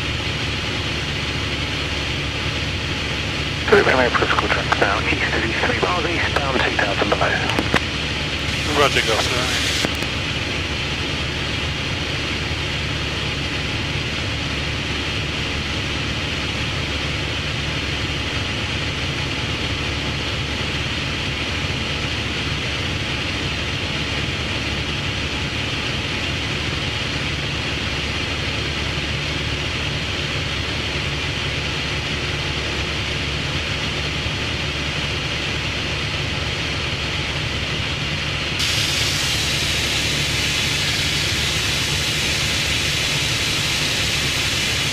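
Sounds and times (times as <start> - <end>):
aircraft engine droning with hiss: 0.0 - 44.9.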